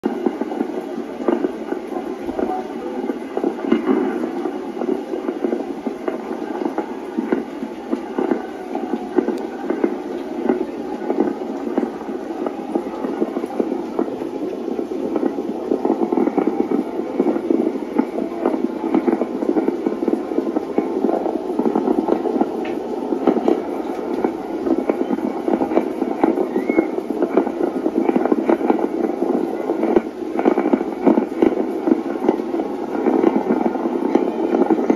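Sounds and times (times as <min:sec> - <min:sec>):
distant fireworks crackling and popping: 0:00.0 - 0:34.9.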